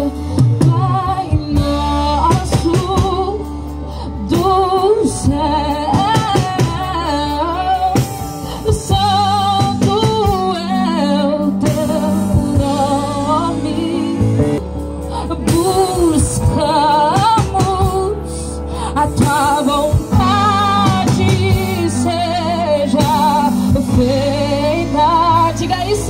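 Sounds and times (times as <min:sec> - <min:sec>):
instrumental accompaniment: 0:00.0 - 0:26.0
woman singing gospel: 0:00.0 - 0:26.0.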